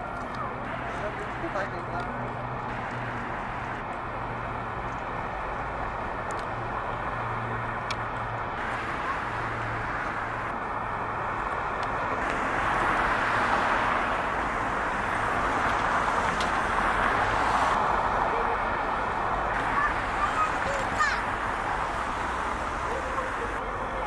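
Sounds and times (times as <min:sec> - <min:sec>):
passing road traffic: 0:00.0 - 0:24.0.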